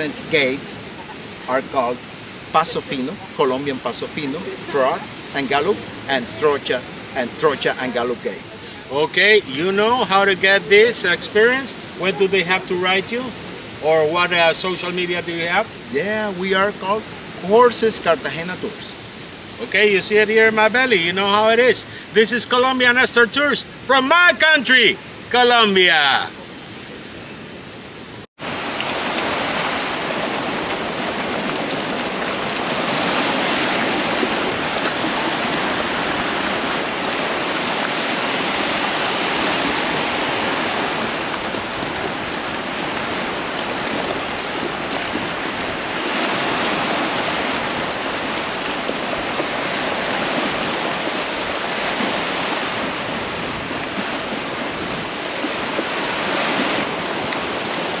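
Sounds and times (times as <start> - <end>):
sea surf breaking: 0.0 - 58.0.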